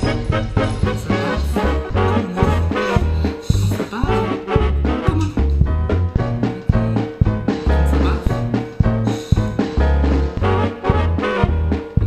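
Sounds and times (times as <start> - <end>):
upbeat swing music with brass: 0.0 - 12.0.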